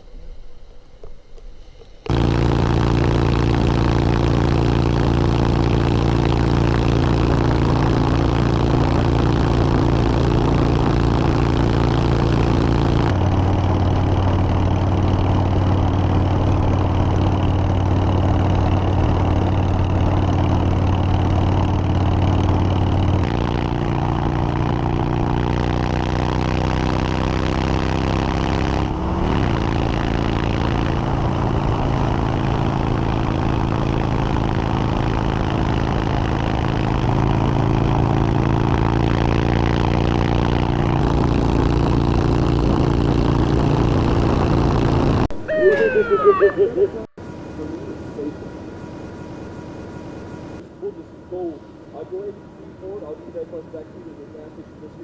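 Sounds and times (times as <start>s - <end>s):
wind and road noise: 0.0s - 52.8s
motorcycle engine running: 1.8s - 50.6s.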